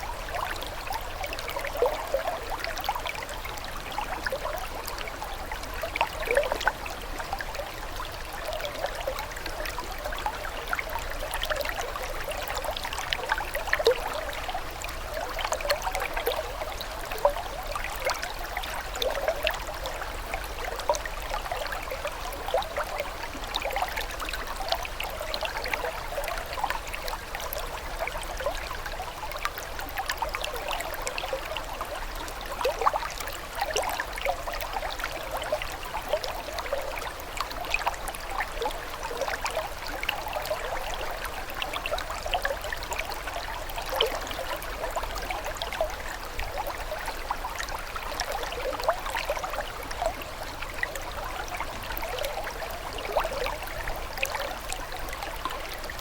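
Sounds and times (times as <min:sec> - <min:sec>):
water babbling: 0:00.0 - 0:56.0.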